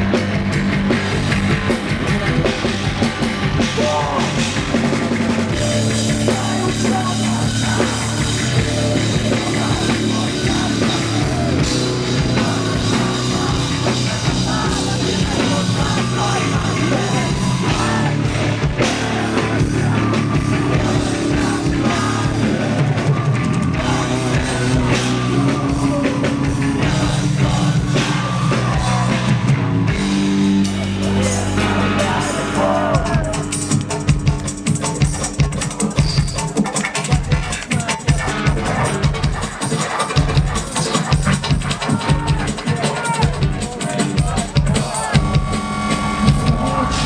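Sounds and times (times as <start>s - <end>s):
bass pattern: 0.0s - 36.6s, 43.4s - 47.0s
drum kit: 0.0s - 47.0s
heavy guitars: 0.0s - 47.0s
rock band playing live: 0.0s - 47.0s
person singing: 3.6s - 41.1s, 41.8s - 47.0s.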